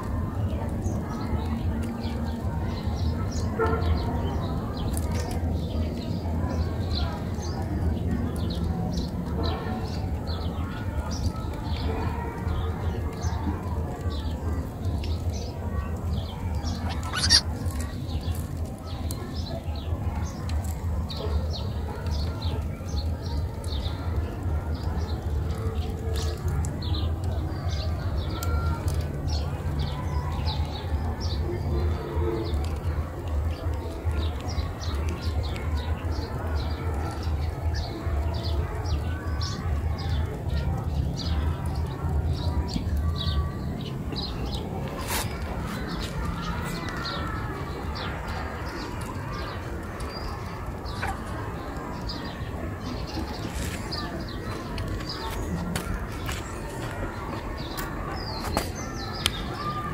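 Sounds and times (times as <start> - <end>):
small birds chirping: 0.2 - 59.9.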